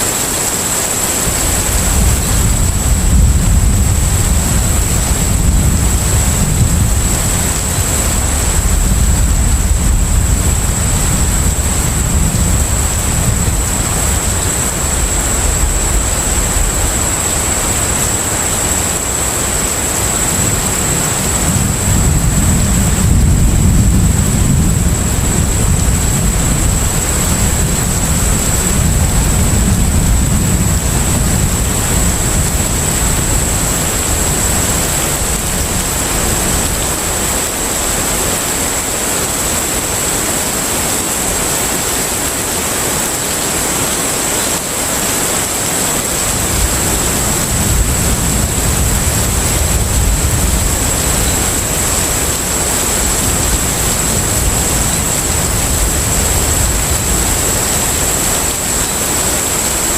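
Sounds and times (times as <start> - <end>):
high steady whine: 0.0 - 59.9
sea and wind rushing: 0.0 - 59.9
deep ship engine rumble: 1.1 - 38.4, 45.7 - 59.3.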